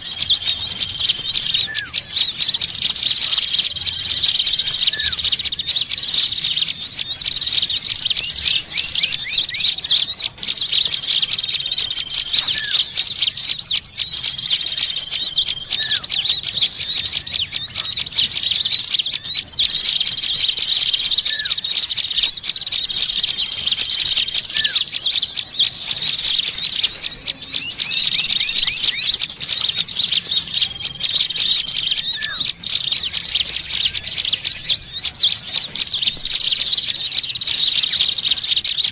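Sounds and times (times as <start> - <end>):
songbirds chattering chorus: 0.0 - 38.9.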